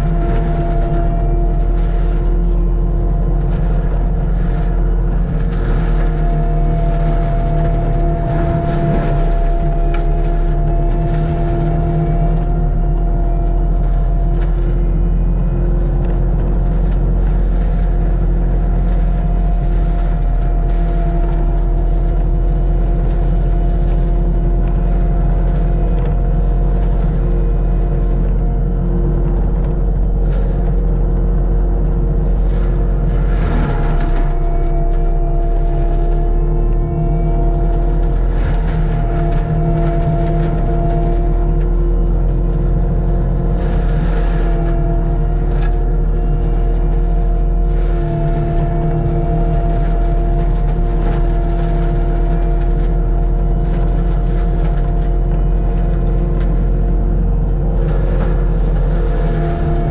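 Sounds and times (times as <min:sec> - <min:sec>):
diesel engine running: 0:00.0 - 0:59.9
engine whine: 0:00.0 - 0:59.9.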